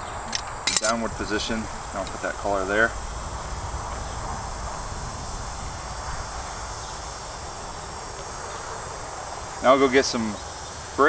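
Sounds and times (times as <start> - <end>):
low rumble: 0.0 - 9.6
insects chirring: 0.0 - 11.0.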